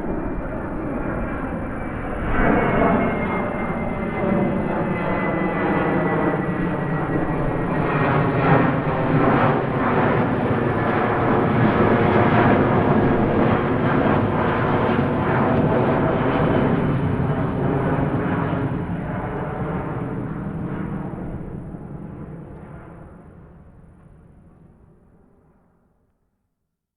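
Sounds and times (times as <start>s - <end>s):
airplane engines running: 0.0s - 25.2s.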